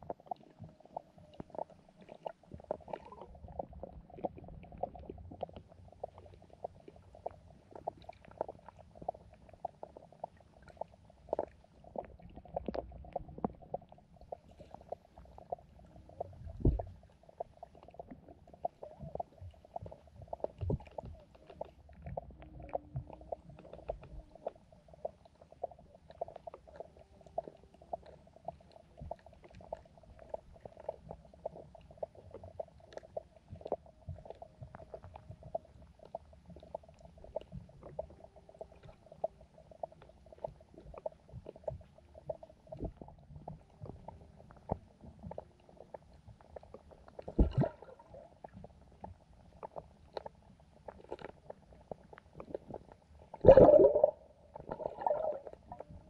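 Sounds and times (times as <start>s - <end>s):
small underwater clicks: 0.0s - 56.0s
underwater low rumble: 0.0s - 56.0s.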